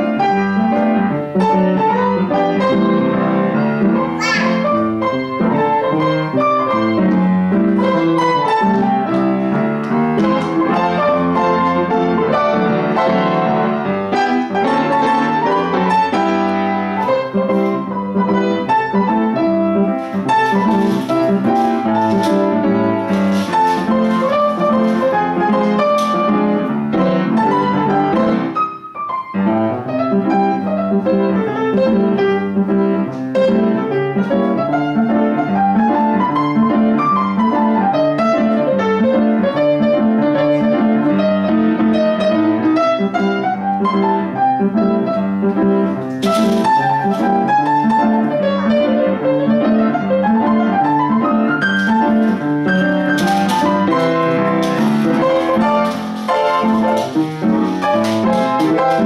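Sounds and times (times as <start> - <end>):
piano playing a christmas song: 0.0 - 59.0.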